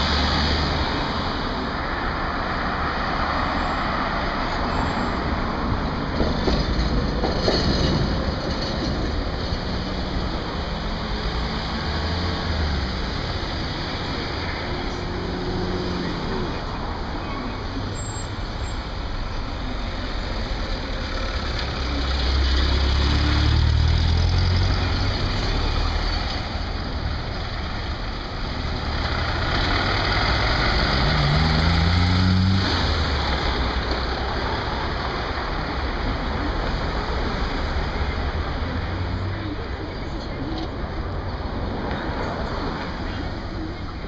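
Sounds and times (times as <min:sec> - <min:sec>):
road traffic driving past: 0:00.0 - 0:44.0.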